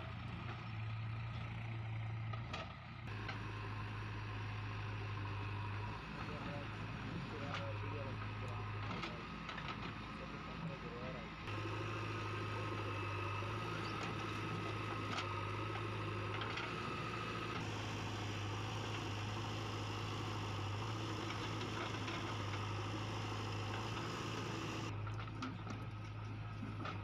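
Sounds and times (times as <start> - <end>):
diesel engines humming: 0.0 - 27.0.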